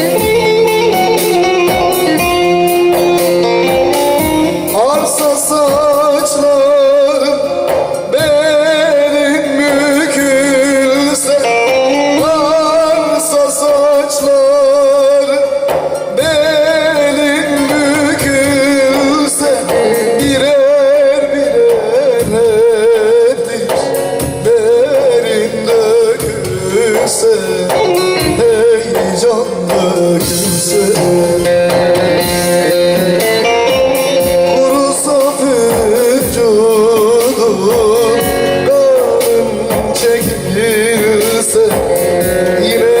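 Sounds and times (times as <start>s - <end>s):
man singing with vibrato: 0.0s - 43.0s
stringed instrument accompaniment: 0.0s - 43.0s.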